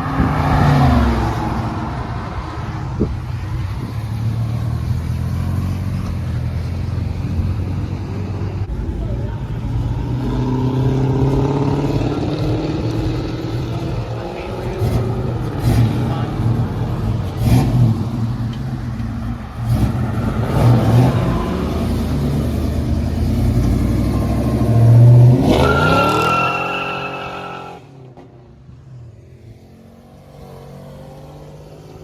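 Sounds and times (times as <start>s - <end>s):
car engine revving: 0.0s - 28.7s.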